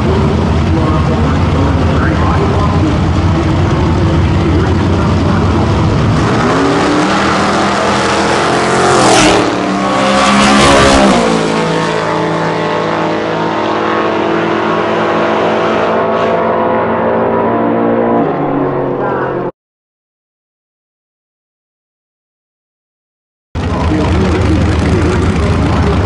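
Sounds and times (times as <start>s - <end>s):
truck engines accelerating: 0.0s - 19.5s, 23.6s - 26.0s.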